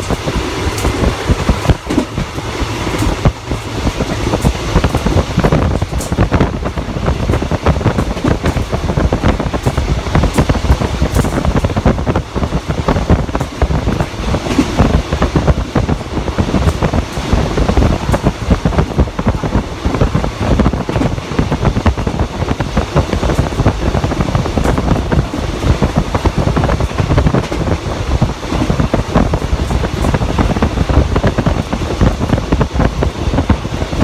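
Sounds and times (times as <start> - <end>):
train rumbling on track: 0.0 - 34.0
wind buffeting microphone: 0.0 - 34.0.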